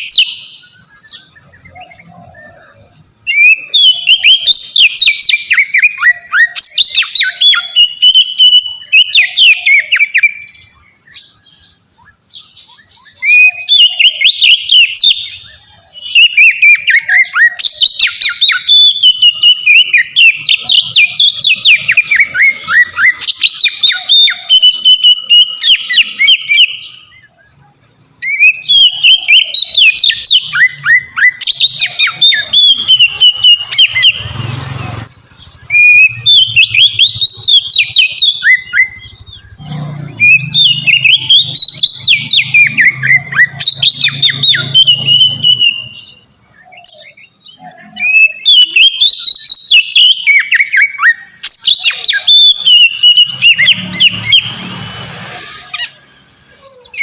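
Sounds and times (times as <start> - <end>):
magpie-robin singing whistled notes: 0.0 - 57.0.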